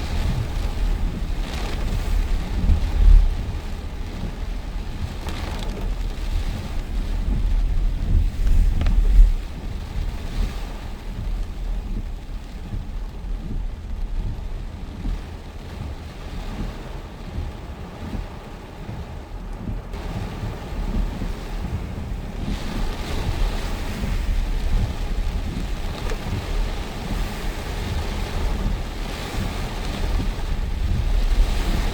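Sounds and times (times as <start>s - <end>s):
storm wind buffeting microphone: 0.0s - 31.9s.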